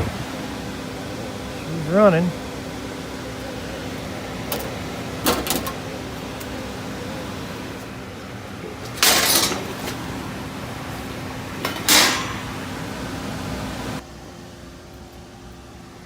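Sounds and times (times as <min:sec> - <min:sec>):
gas furnace humming: 0:00.0 - 0:16.0.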